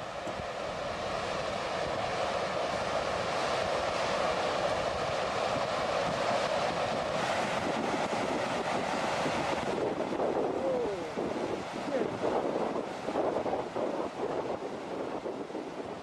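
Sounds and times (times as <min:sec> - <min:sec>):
flood water rushing: 0:00.0 - 0:13.8.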